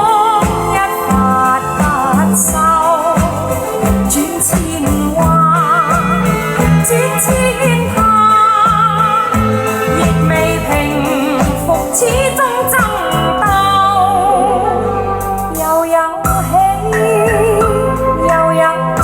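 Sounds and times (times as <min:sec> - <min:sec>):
sung ballad with orchestra: 0:00.0 - 0:19.0.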